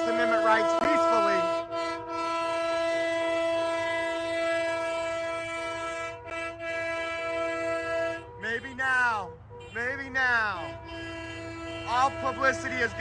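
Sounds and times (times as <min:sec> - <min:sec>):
air horn blast: 0:00.0 - 0:08.6, 0:10.5 - 0:13.0.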